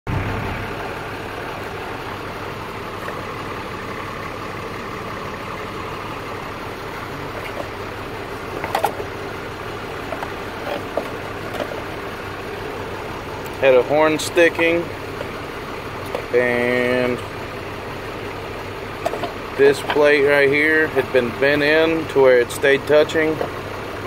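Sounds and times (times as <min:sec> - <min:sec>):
diesel engine idling: 0:00.1 - 0:24.0.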